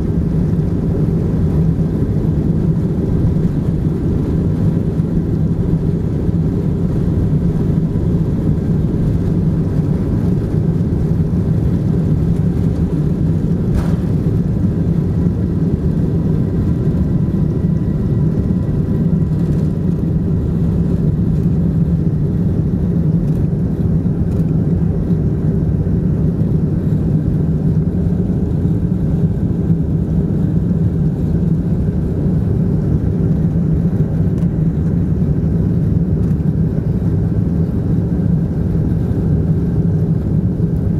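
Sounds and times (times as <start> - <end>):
steady hum: 0.0 - 36.1
jet engines rumbling in cabin: 0.0 - 40.9.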